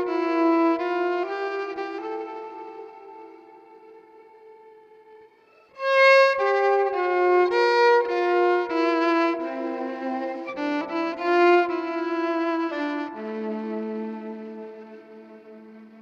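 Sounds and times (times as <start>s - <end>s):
violin playing bowed notes: 0.0s - 16.0s.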